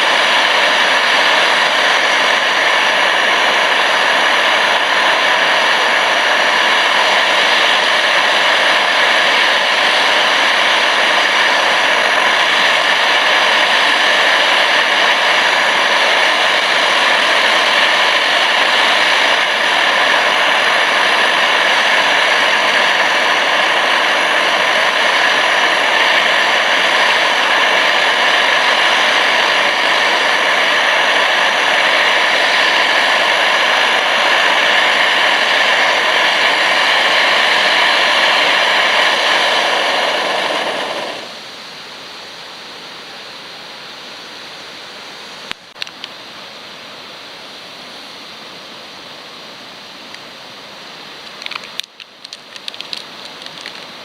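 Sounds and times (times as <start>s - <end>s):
camping stove hissing: 0.0s - 54.0s.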